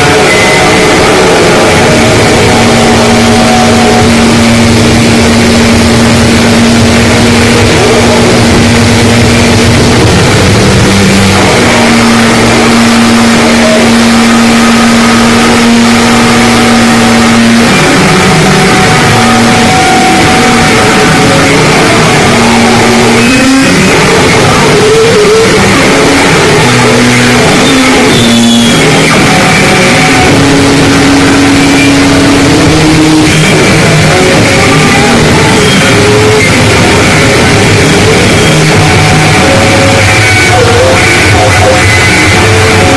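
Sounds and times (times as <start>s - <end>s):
distorted noise music drone: 0.0s - 42.9s.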